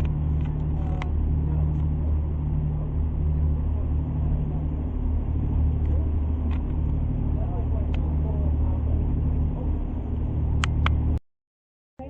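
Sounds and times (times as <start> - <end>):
boat engine droning: 0.0 - 11.2.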